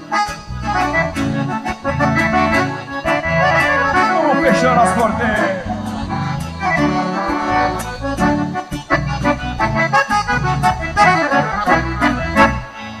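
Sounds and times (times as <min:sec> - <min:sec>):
accordions playing: 0:00.0 - 0:13.0
acoustic guitar: 0:00.0 - 0:13.0.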